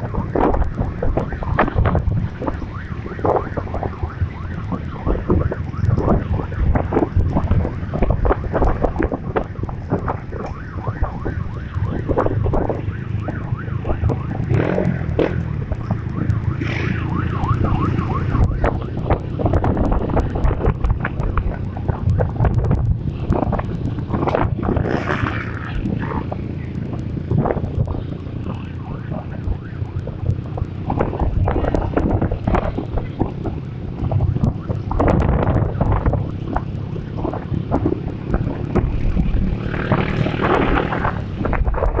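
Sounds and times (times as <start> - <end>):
siren yelping: 0.0 - 41.2
motorcycle engines rumbling: 0.0 - 42.0
wind buffeting microphone: 0.0 - 42.0.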